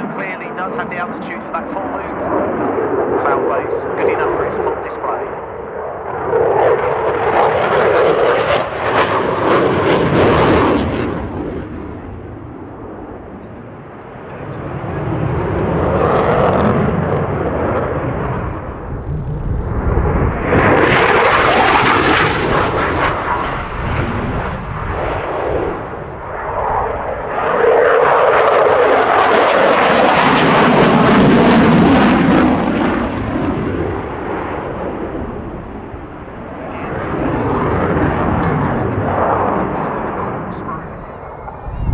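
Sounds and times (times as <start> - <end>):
fighter jet flying past: 0.0 - 41.9.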